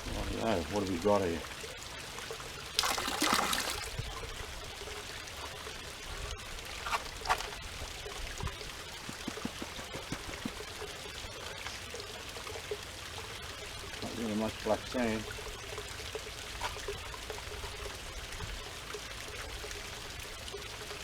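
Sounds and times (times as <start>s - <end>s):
water splashes: 0.0s - 21.0s
waterfall trickling into pool: 0.0s - 21.0s.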